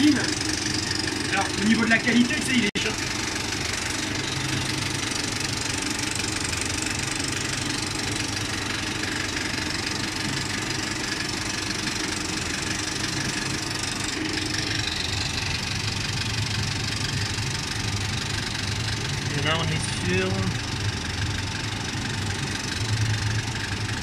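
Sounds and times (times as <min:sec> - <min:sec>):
film projector running: 0:00.0 - 0:24.0.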